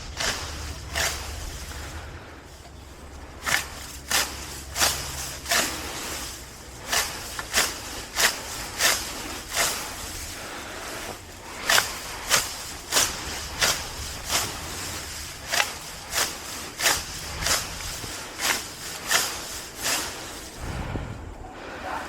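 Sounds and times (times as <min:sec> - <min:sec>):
grass being plucked by hand: 0:00.0 - 0:21.4.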